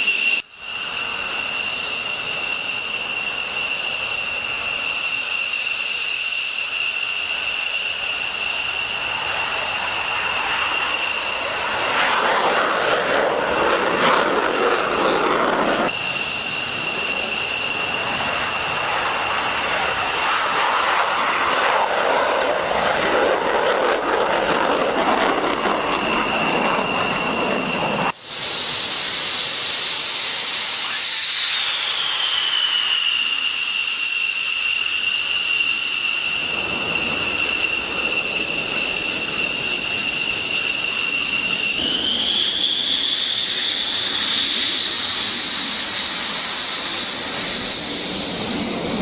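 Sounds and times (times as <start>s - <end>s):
jet engine turbine whine: 0.0s - 49.0s.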